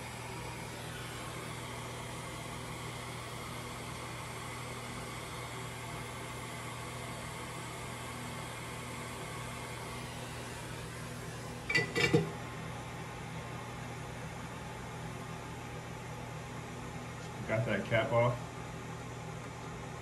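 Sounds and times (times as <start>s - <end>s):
fan whirring: 0.0s - 20.0s.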